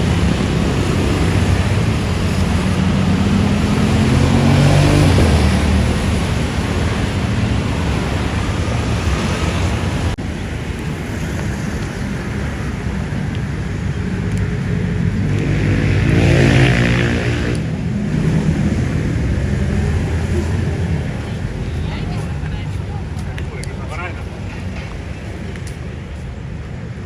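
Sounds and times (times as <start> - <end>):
vehicle passing close: 0.0 - 26.3
vehicle engines running: 0.0 - 27.0.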